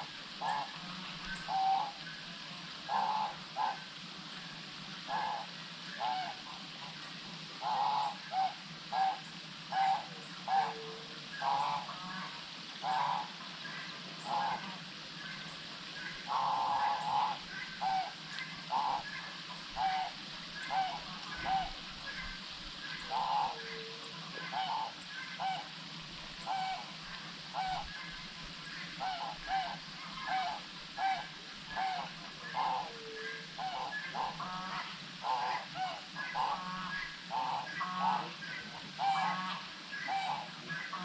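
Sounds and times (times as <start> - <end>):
background hiss: 0.0 - 41.0.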